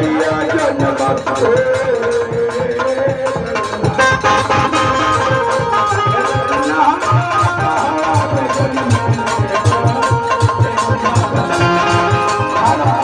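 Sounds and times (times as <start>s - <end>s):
hand drum rhythm: 0.0s - 13.0s
man singing into a microphone: 0.0s - 13.0s.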